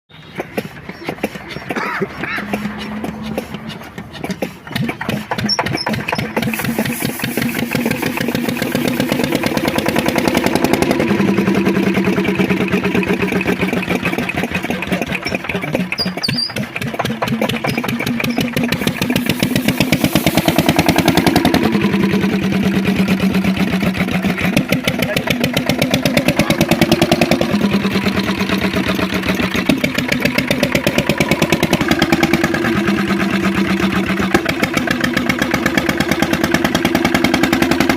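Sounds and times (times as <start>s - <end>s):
diesel engine chugging: 0.1s - 37.9s.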